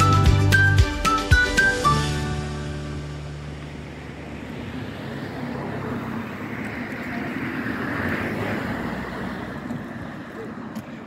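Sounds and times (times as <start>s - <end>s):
road vehicle passing: 1.6s - 11.0s.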